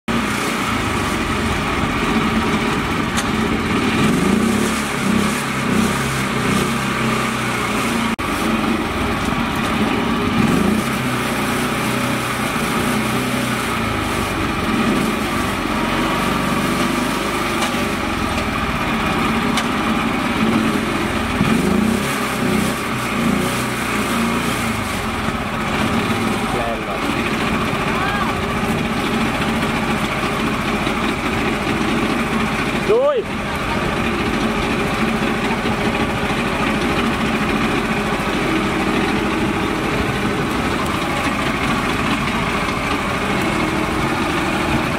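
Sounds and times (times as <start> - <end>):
small tractor engine revving: 0.0 - 44.9.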